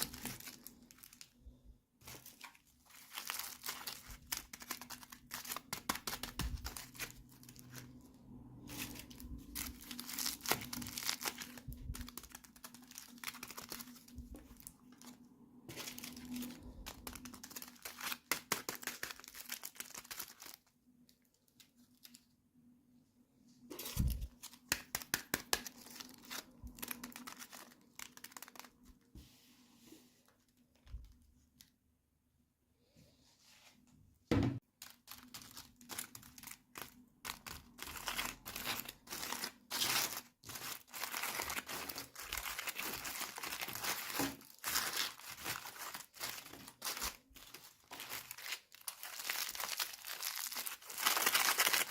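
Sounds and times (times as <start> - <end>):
packaging rustling and tearing: 0.0 - 1.4, 2.0 - 22.2, 23.7 - 29.1, 34.8 - 51.9.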